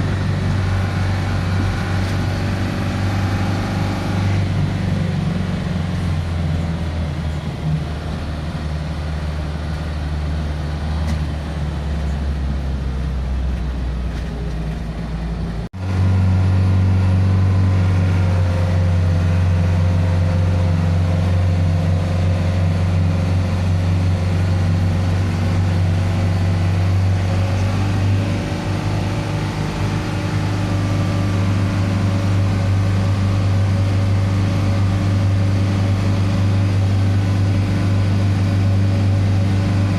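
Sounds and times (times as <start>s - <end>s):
diesel bus engine running: 0.0s - 39.9s.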